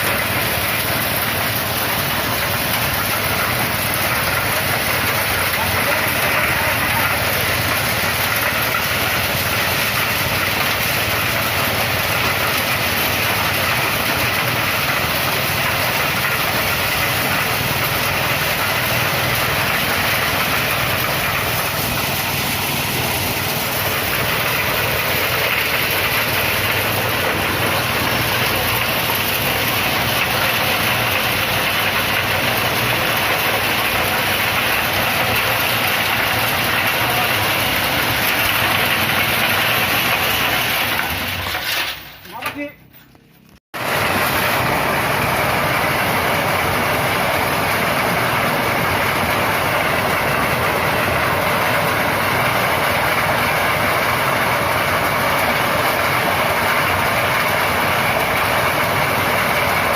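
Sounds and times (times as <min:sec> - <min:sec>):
corn sheller engine running: 0:00.0 - 0:59.9.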